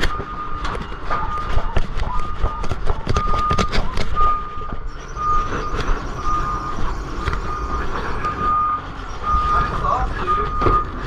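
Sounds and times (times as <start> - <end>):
low engine rumble: 0.0 - 11.0
reversing alarm beeping: 0.0 - 11.0.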